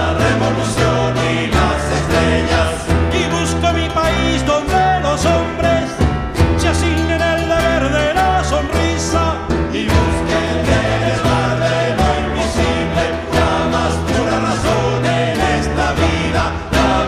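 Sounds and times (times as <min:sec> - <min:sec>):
group singing over bass and beat: 0:00.0 - 0:17.0.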